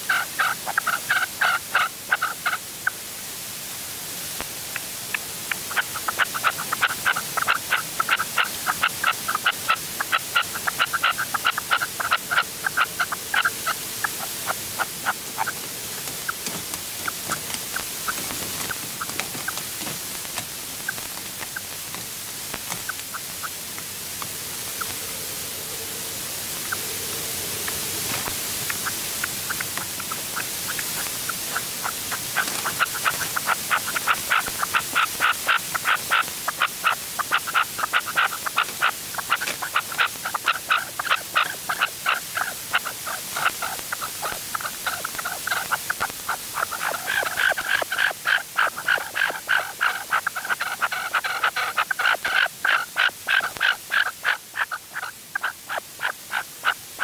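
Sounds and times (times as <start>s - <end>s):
partridge calling: 0.1s - 3.0s, 5.5s - 21.8s, 22.6s - 23.6s, 27.7s - 57.0s.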